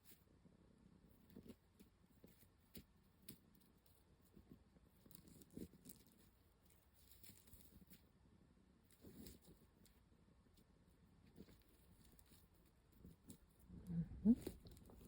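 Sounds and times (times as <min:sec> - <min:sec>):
tinsel toy rustles and ticks: 0:01.1 - 0:08.1, 0:08.8 - 0:15.0.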